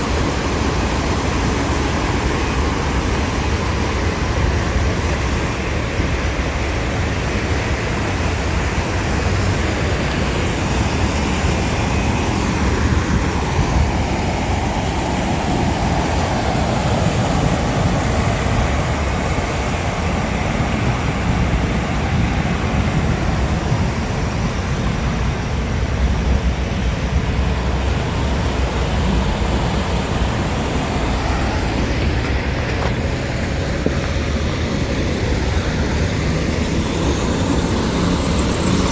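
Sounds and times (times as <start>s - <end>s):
traffic on wet streets: 0.0s - 38.9s.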